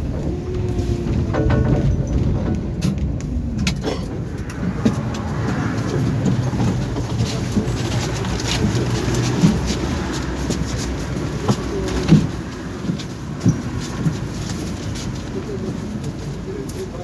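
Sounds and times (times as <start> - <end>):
tram rumbling along track: 0.0 - 17.0.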